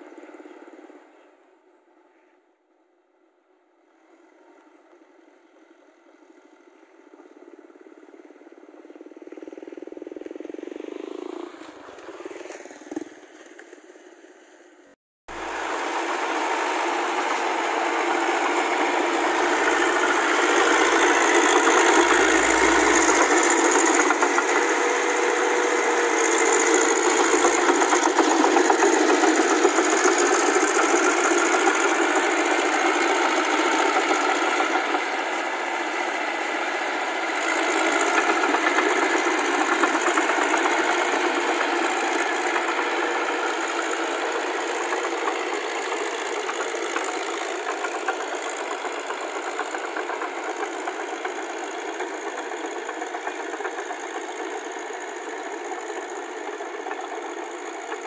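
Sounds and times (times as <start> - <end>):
diesel tractor engine running: 5.6 - 12.5, 15.3 - 58.0.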